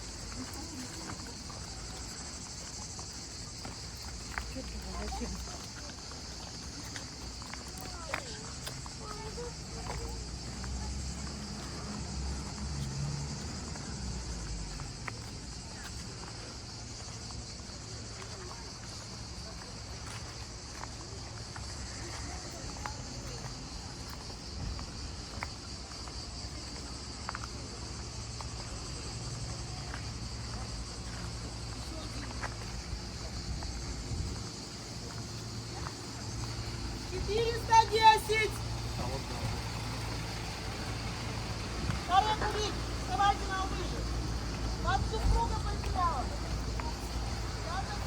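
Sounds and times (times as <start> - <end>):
insects chorus: 0.0 - 48.0.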